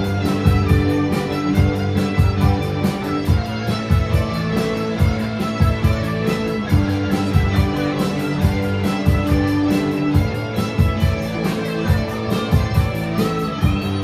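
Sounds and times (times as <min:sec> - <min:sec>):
bass guitar: 0:00.0 - 0:14.0
drum kit with cymbals: 0:00.0 - 0:14.0
electric guitars: 0:00.0 - 0:14.0
keyboard: 0:00.0 - 0:14.0.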